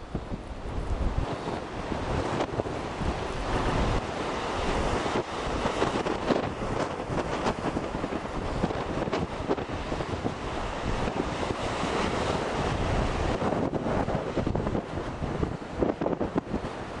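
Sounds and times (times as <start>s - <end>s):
sea surf breaking: 0.0s - 17.0s
wind buffeting microphone: 0.0s - 17.0s.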